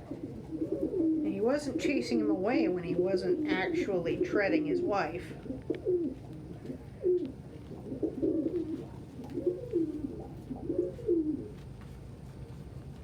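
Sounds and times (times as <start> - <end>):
pigeons cooing: 0.0 - 11.8.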